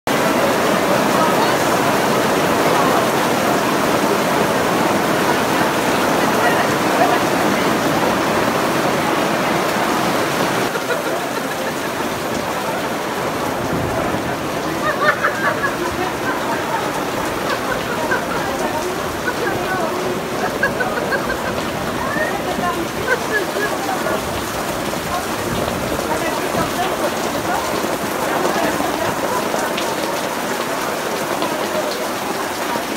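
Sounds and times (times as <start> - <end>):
heavy rain pouring: 0.1 - 32.9.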